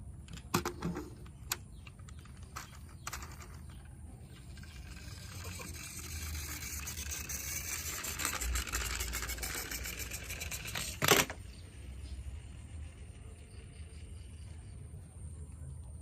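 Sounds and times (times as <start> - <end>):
toy trucks rattling: 0.2 - 14.9.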